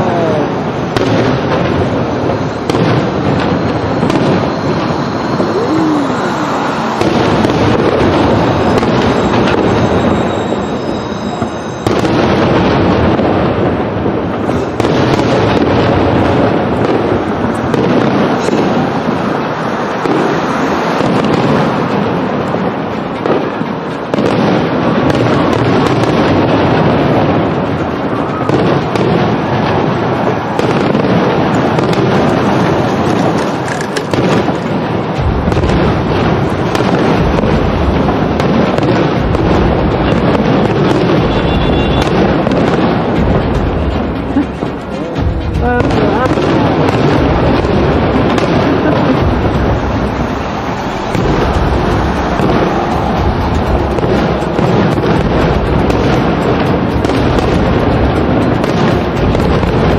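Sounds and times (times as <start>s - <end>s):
deep fireworks booms: 0.0s - 59.9s
fireworks bursts and crackle: 0.0s - 59.9s.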